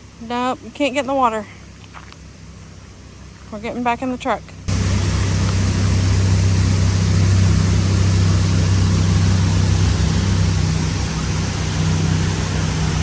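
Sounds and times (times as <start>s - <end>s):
road and tyre noise: 0.0s - 13.0s
truck engine hum: 0.0s - 13.0s.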